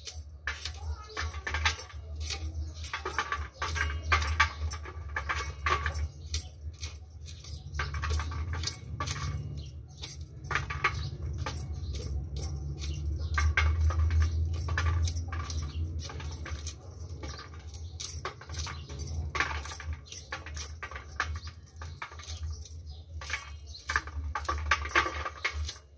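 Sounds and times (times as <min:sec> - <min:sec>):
corn kernels dropping on metal plate: 0:00.0 - 0:25.9.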